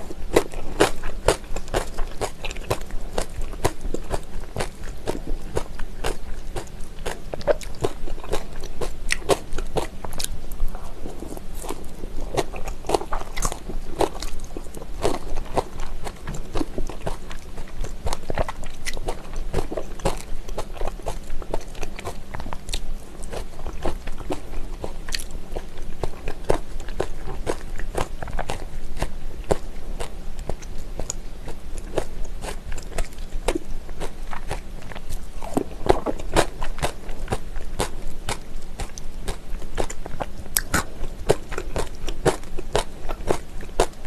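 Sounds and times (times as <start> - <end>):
crunchy chewing: 0.0 - 44.0.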